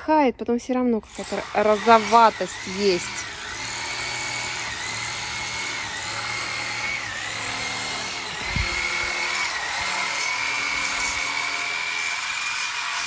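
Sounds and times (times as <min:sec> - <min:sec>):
power tool motor whine: 0:01.0 - 0:13.0.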